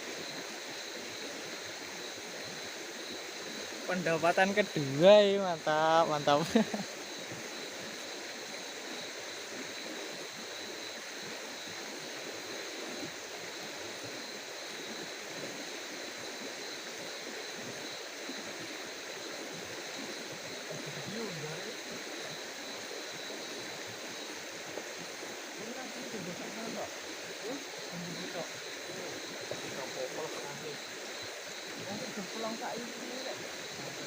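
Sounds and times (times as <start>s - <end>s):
constant hiss: 0.0s - 34.0s.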